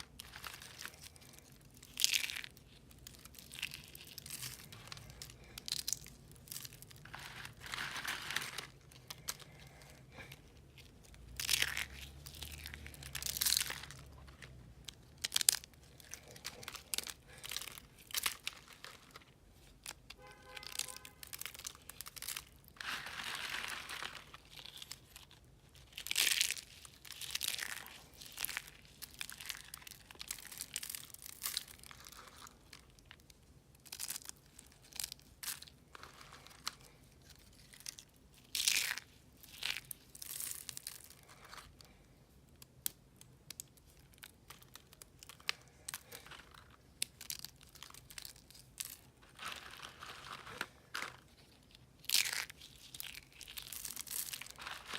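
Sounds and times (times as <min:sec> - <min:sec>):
soap being crushed: 0:00.0 - 0:54.9.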